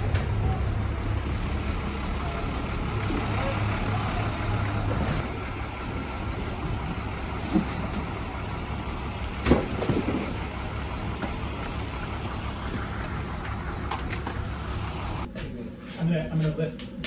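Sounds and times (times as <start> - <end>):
engine rumbling: 0.0 - 15.7.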